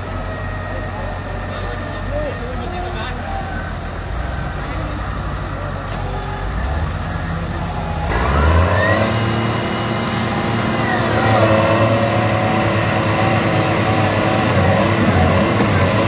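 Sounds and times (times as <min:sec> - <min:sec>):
tractor diesel engines revving: 0:00.0 - 0:16.0.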